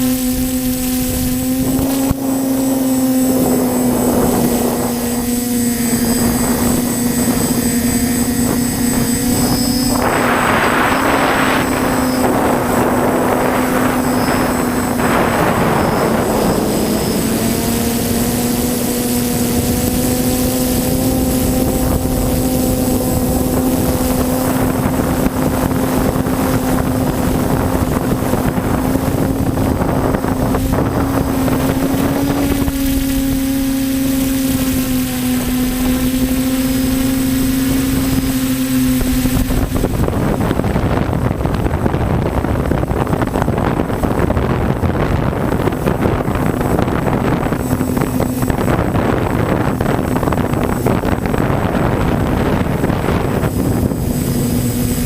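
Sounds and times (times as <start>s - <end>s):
quadcopter propellers buzzing: 0.0s - 55.0s
wind rushing over microphone: 0.0s - 55.0s.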